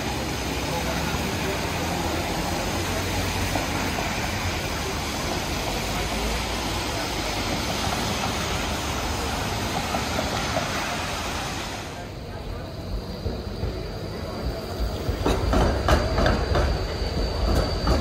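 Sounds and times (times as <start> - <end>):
street noise: 0.0 - 18.0
tram low rumble: 0.0 - 18.0.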